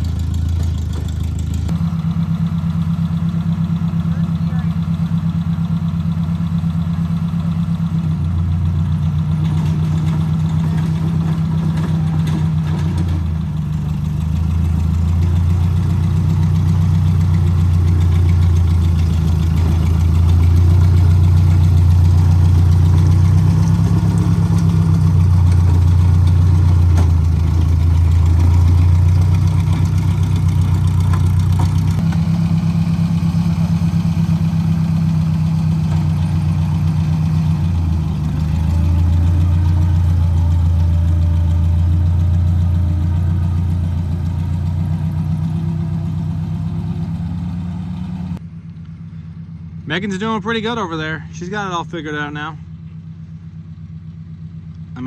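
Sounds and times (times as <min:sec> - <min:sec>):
tractor engine drone: 0:00.0 - 0:55.0.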